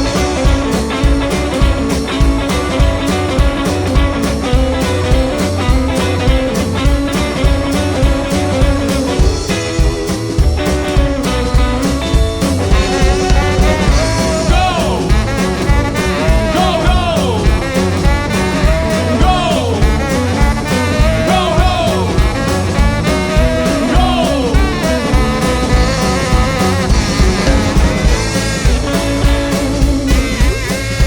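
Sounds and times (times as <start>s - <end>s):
drum and bass beat: 0.0s - 31.0s
lead guitar with pitch bends: 0.0s - 31.0s.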